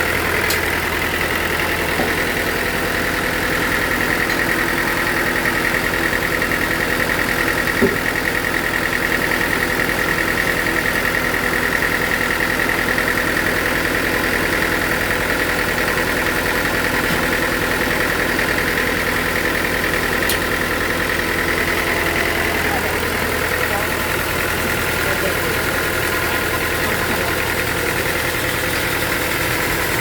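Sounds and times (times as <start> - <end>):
sawmill machinery drone and whine: 0.0 - 30.0.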